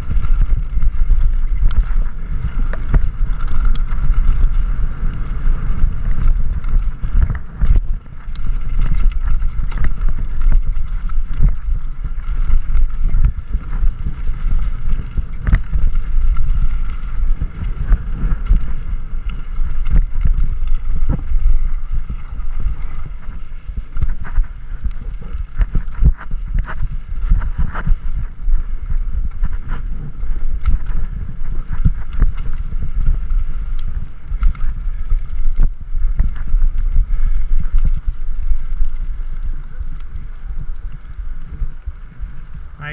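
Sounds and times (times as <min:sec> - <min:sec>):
tyres rumbling on gravel: 0:00.0 - 0:38.8
bike rattling and clanking: 0:00.0 - 0:39.0
wind buffeting microphone: 0:00.0 - 0:42.9.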